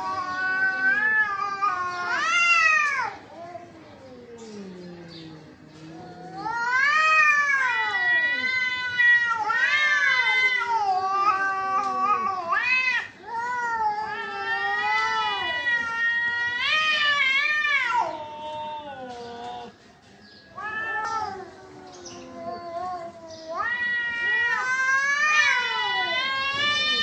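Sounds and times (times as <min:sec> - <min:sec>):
cats yowling: 0:00.0 - 0:19.9, 0:20.5 - 0:27.0.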